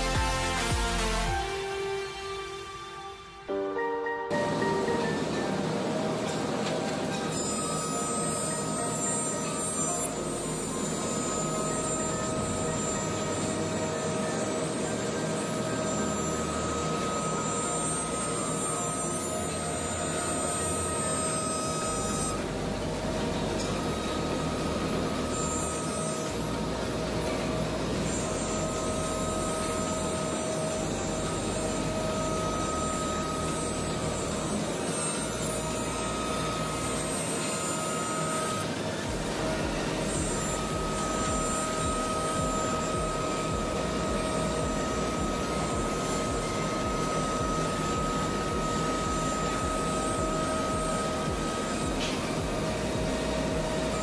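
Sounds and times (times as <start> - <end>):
router spindle whine: 0.0 - 3.6, 4.4 - 54.0
router bit cutting panel: 6.2 - 54.0.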